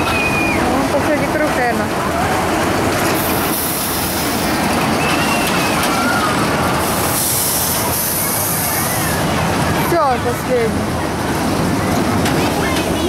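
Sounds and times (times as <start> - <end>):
roller coaster rolling on track: 0.0 - 13.0
wheels hissing: 0.0 - 13.0.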